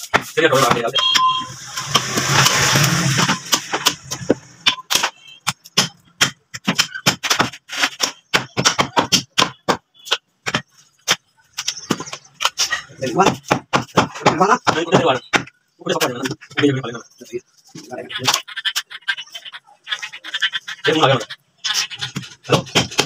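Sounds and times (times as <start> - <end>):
cleavers chopping meat and bone: 0.0 - 17.0, 17.7 - 23.0.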